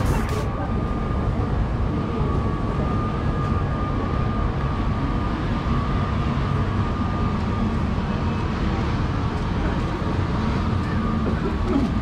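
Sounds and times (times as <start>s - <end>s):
low rumble of city street: 0.0s - 12.0s.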